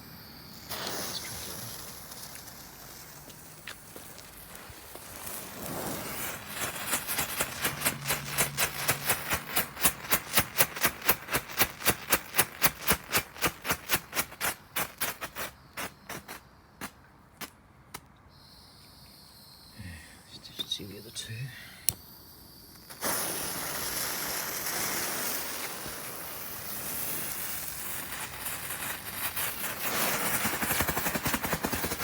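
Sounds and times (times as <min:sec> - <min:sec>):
firework hissing: 0:00.0 - 0:17.5, 0:18.3 - 0:32.0
firework sharp pops: 0:00.0 - 0:18.1, 0:21.9 - 0:32.0.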